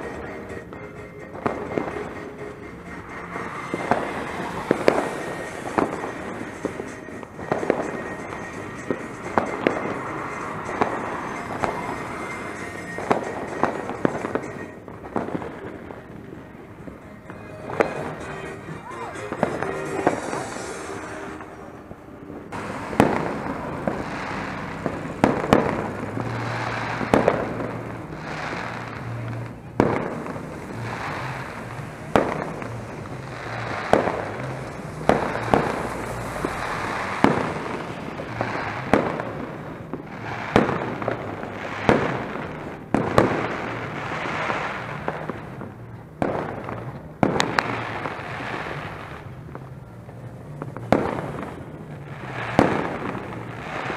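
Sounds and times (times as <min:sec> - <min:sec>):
fireworks bangs with echo: 0:00.0 - 0:53.9.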